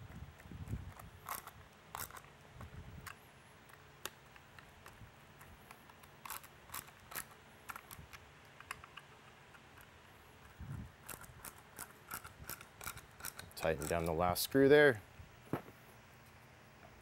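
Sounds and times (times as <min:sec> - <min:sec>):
screwdriver clicks and scrapes: 0:00.1 - 0:14.3.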